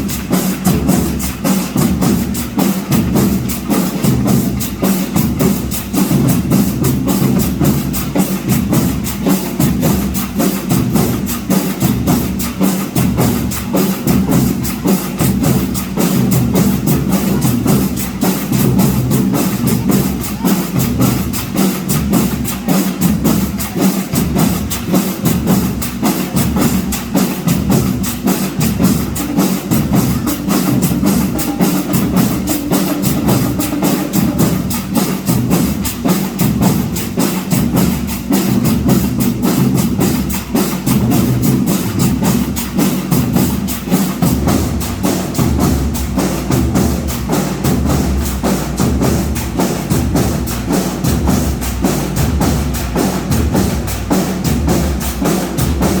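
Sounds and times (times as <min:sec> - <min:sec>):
snare drum strokes: 0:00.0 - 0:56.0.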